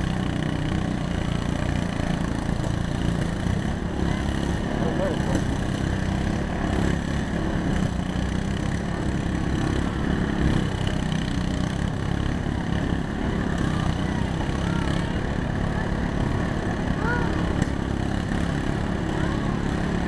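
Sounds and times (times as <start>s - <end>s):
lawn mower engines running: 0.0s - 20.0s
crowd chatter: 1.5s - 7.0s, 8.6s - 20.0s.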